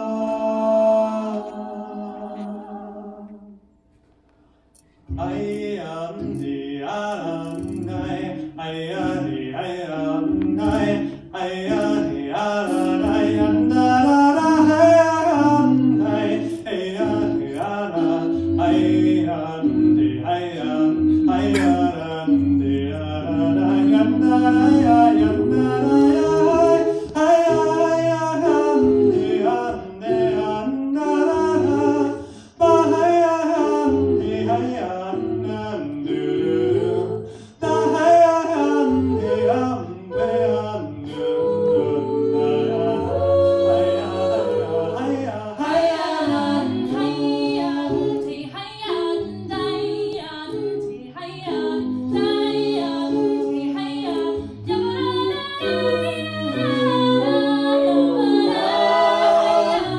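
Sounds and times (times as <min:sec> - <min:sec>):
vocal ensemble singing in harmony: 0:00.0 - 0:59.9.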